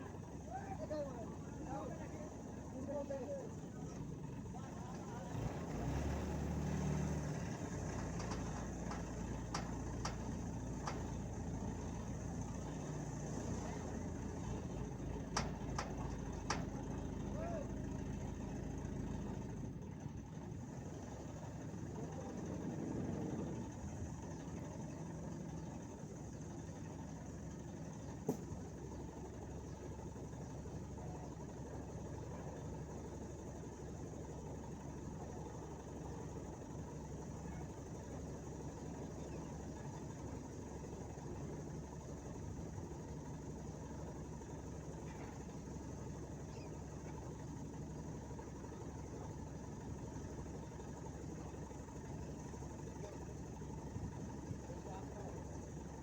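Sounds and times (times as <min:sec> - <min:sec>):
low engine rumble: 0:00.0 - 0:56.0.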